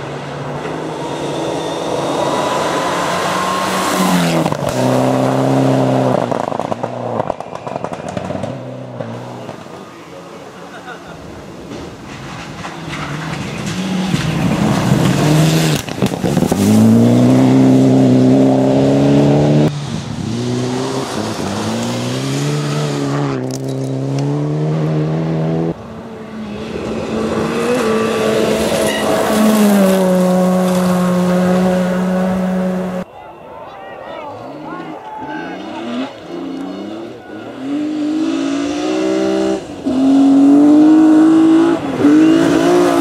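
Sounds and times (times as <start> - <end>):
rally cars passing at full throttle: 0.0 - 43.0.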